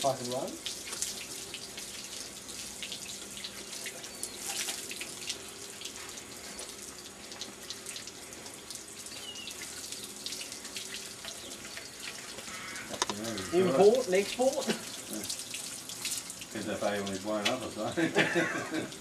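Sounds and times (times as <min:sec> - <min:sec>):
water drips and splats: 0:00.0 - 0:19.0
water running and splashing: 0:00.0 - 0:19.0.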